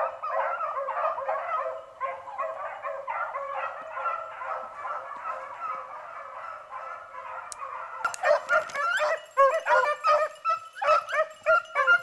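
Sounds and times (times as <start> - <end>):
beagles baying: 0.0 - 12.0.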